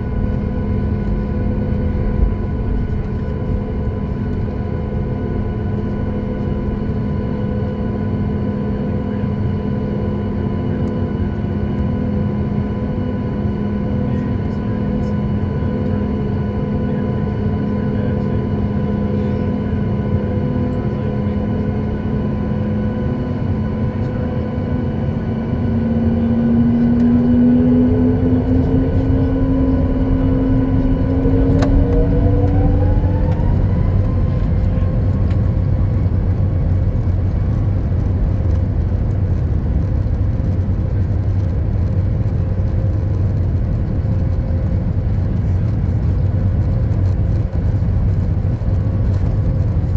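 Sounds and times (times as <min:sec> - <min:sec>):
jet engines humming and whining: 0:00.0 - 0:49.9.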